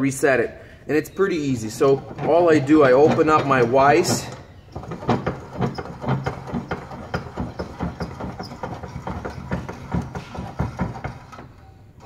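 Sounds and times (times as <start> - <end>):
bench vise clicking and clanking: 1.7 - 11.7.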